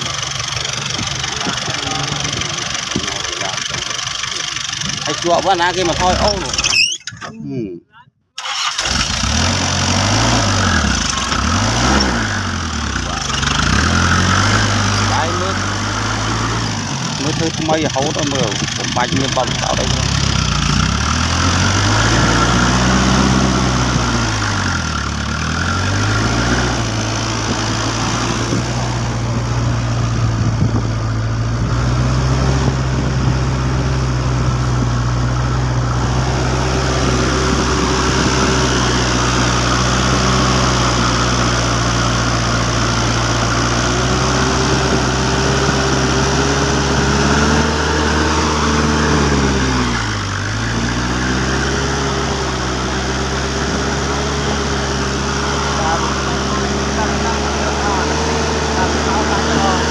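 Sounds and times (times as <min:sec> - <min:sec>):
truck engine running: 0:00.0 - 0:07.8, 0:08.4 - 0:59.9.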